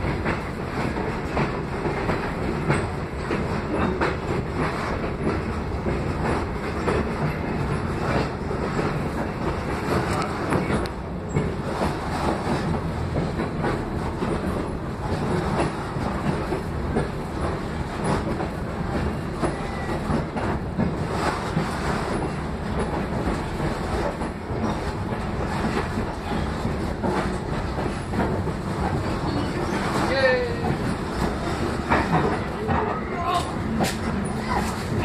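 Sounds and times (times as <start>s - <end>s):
wheels rumbling on rails: 0.0s - 35.0s.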